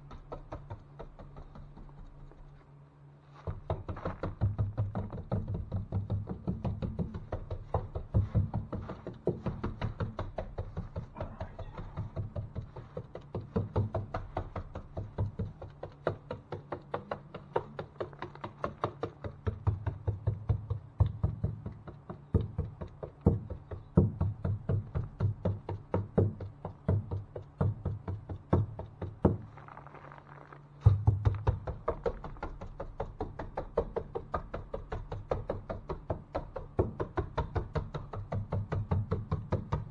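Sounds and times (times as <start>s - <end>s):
rapid uneven knocking: 0.0s - 2.6s, 3.4s - 29.7s, 30.8s - 39.9s.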